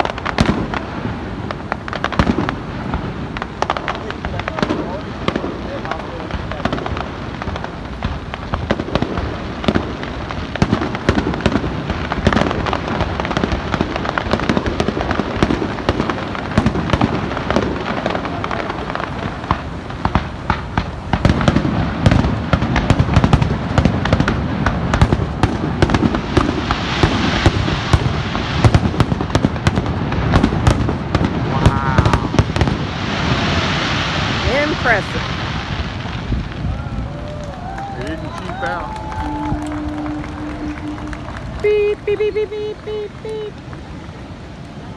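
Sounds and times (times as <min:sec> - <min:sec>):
dense crackling: 0:00.0 - 0:44.9
fireworks bursting: 0:00.0 - 0:44.9.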